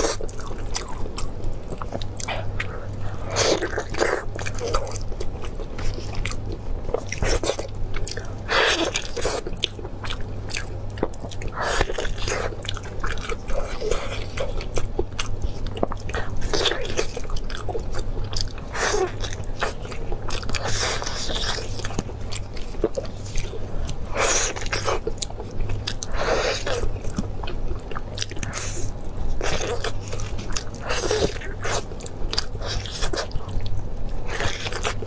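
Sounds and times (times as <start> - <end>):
person chewing meat: 0.0 - 35.0
steady low hum: 0.0 - 35.0.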